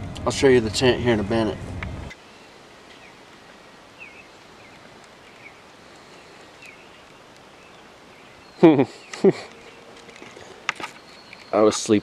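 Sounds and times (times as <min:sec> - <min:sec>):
outdoor background hiss: 0:00.0 - 0:12.0
songbirds chirping faintly: 0:00.0 - 0:12.0.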